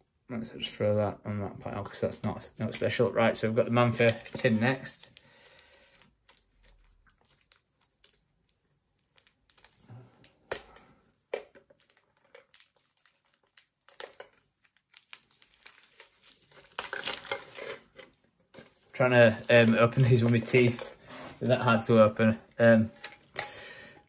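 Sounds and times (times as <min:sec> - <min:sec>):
plastic wrap crinkling and tearing: 0:02.7 - 0:23.6.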